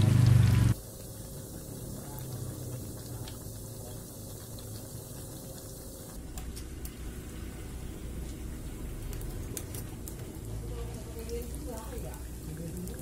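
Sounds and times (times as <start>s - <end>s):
oil crackling and clicking: 0.0s - 7.0s, 8.2s - 13.0s
batter deep-frying in hot oil: 0.0s - 13.0s.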